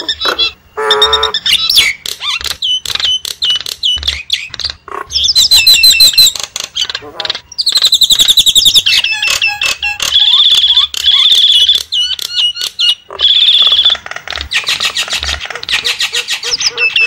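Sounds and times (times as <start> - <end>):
mynas chattering and squawking: 0.0 - 17.0.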